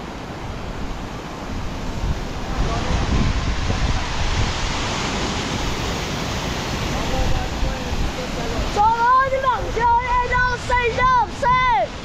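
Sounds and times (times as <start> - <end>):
storm wind buffeting microphone: 0.0 - 12.0.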